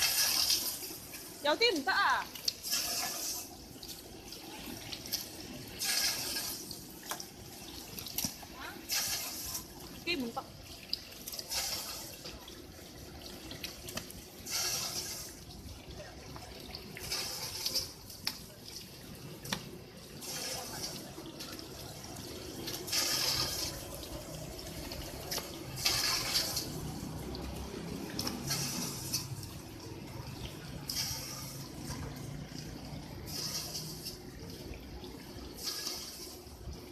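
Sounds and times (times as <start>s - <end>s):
water spray splashing: 0.0s - 36.9s.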